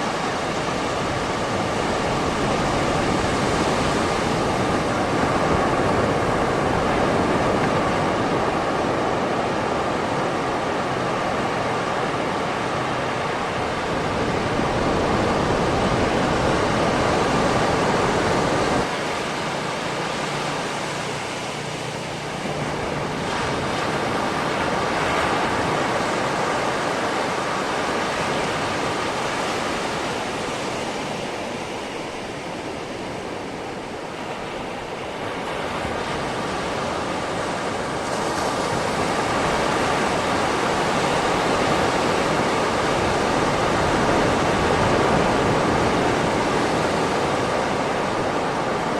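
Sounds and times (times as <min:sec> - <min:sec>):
sea waves washing onto beach: 0:00.0 - 0:48.9.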